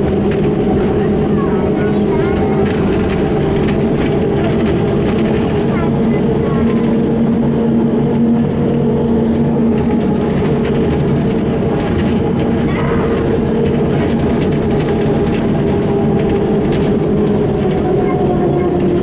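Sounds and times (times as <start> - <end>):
bus diesel engine running: 0.0 - 19.0
road noise: 0.0 - 19.0.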